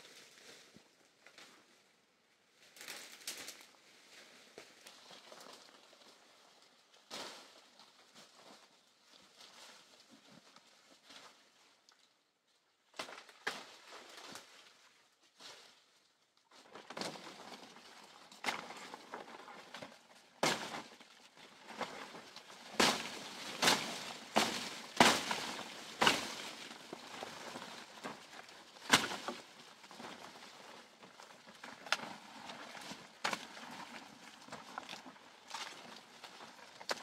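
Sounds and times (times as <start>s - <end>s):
leaves and twigs rustling and snapping: 2.6s - 12.3s, 12.9s - 37.0s.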